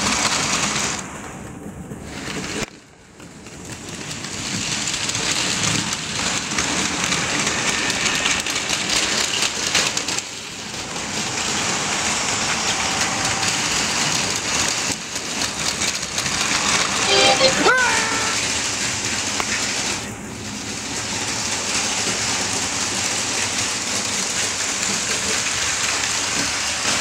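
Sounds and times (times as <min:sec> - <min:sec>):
toy train motors whirring: 0:03.7 - 0:20.0, 0:20.8 - 0:27.0.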